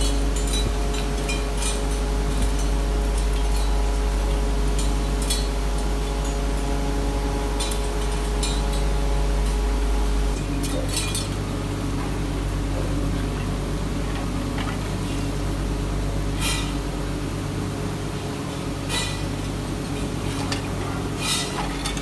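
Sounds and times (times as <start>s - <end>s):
workshop machinery humming: 0.0s - 22.0s.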